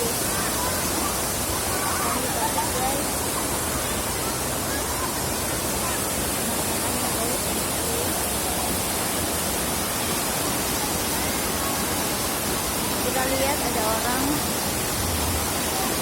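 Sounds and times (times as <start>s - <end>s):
distant voices of people: 0.0s - 16.0s
waterfall rushing: 0.0s - 16.0s.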